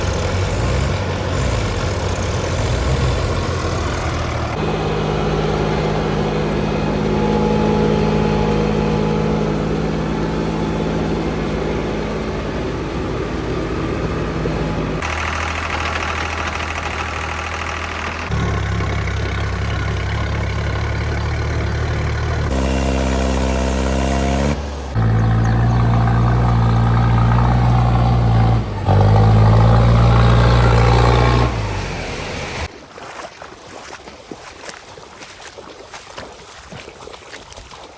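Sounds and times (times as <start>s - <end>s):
tractor engines running: 0.0s - 32.7s.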